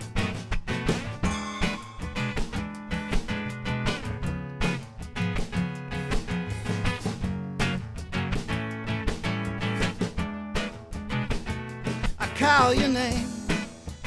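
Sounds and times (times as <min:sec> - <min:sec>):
guitar strumming: 0:00.0 - 0:14.0.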